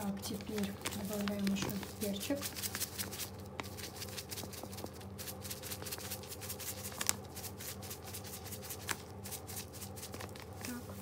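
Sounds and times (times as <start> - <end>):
pepper grinder rasping: 0.3 - 10.8.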